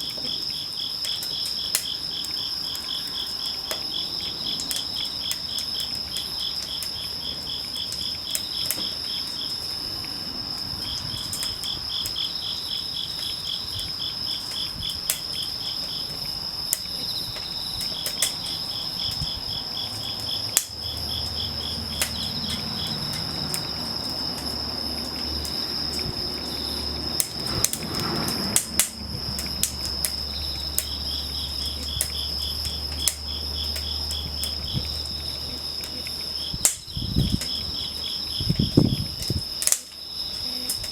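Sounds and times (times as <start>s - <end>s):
insects chirping: 0.0s - 40.9s
wood fire crackling and popping: 0.0s - 40.9s.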